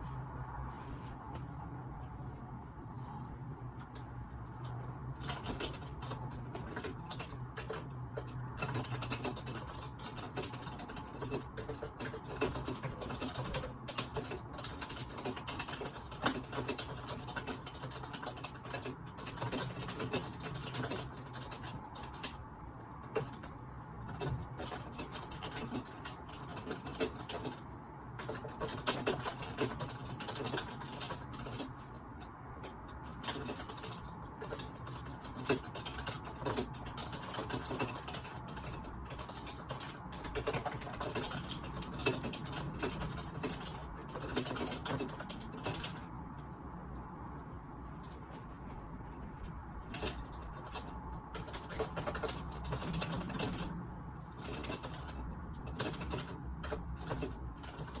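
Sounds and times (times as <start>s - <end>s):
low steady hum: 0.0s - 58.0s
computer keyboard typing: 3.8s - 47.4s, 48.0s - 58.0s.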